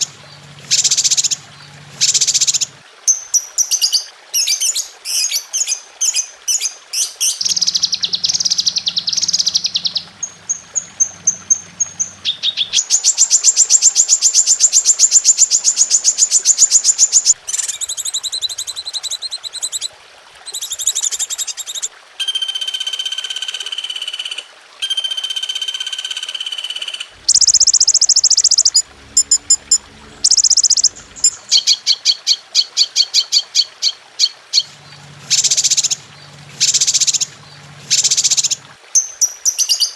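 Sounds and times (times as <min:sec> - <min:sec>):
songbird calls and songs: 0:00.0 - 0:19.9, 0:23.3 - 0:39.9.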